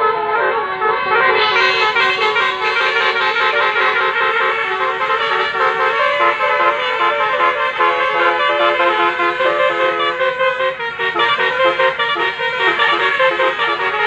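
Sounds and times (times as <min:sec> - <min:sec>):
musical bus horns tootling: 0:00.0 - 0:14.0.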